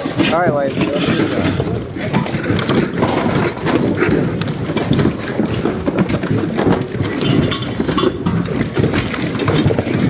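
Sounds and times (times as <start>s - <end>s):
merchandise rattling and knocking: 0.0s - 10.0s
rolling bins rumbling: 0.0s - 10.0s.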